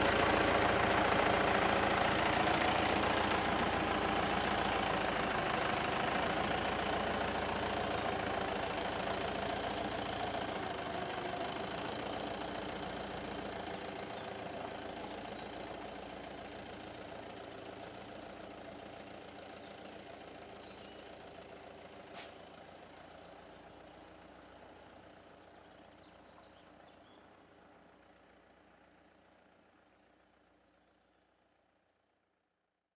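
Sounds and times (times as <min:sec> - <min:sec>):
diesel truck engine driving away: 0:00.0 - 0:31.2.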